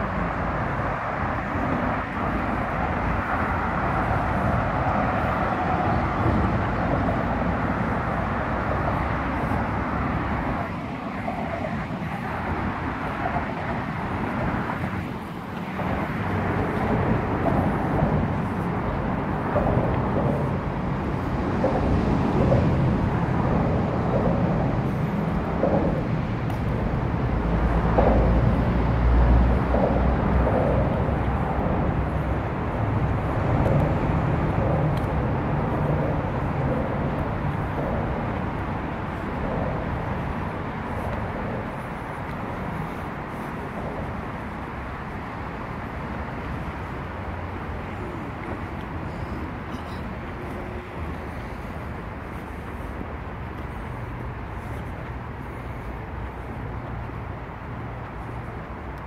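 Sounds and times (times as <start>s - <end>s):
heavy vehicle passing: 0.0s - 59.0s
road traffic rumble: 0.0s - 59.0s.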